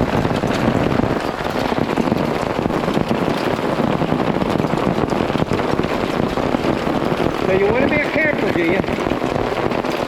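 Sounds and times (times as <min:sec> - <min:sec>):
rain and hail on awning: 0:00.0 - 0:10.0.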